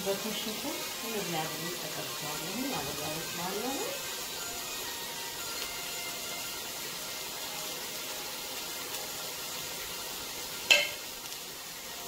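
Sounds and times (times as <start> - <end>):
meat and vegetables sizzling: 0.0 - 12.0.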